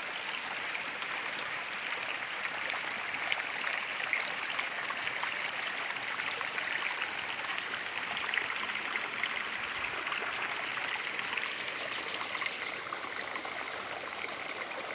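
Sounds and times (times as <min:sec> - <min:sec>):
water running over rocks: 0:00.0 - 0:14.9.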